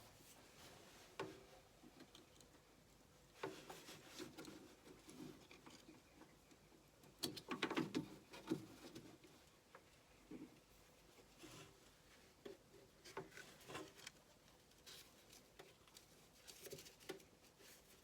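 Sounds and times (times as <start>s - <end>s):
light clicks and taps of objects: 1.1s - 18.0s.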